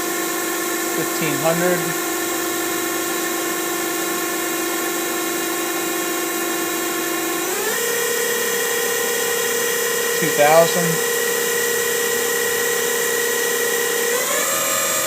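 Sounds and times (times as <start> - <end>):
lathe spindle whine: 0.0 - 15.0.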